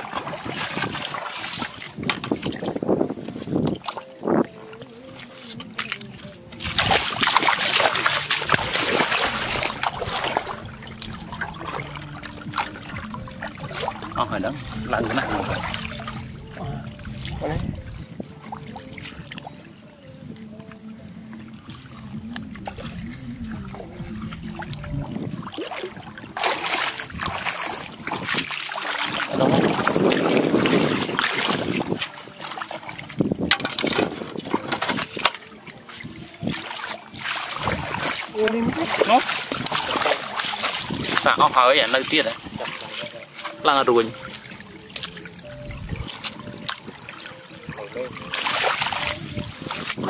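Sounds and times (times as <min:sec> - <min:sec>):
feet splashing in shallow water: 0:00.0 - 0:50.0
water trickling: 0:00.0 - 0:50.0.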